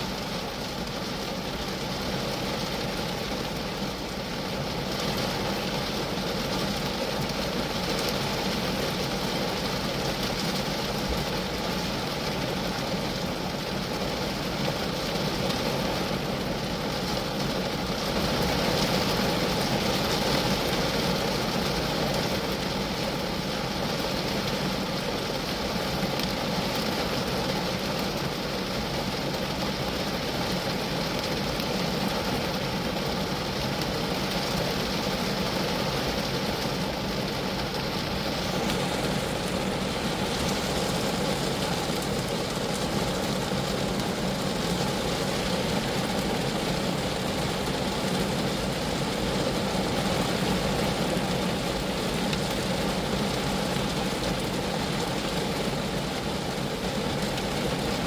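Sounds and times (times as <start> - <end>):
rain on a car body: 0.0 - 58.0.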